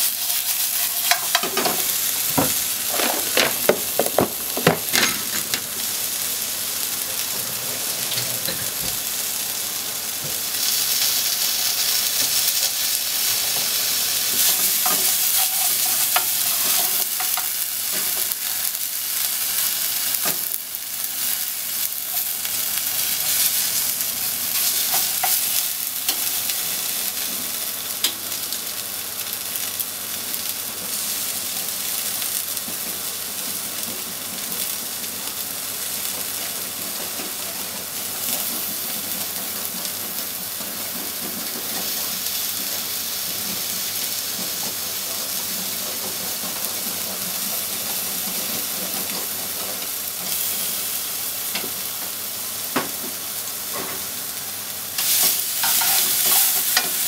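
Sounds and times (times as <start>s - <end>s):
scallop strips sizzling in oil: 0.0s - 57.0s.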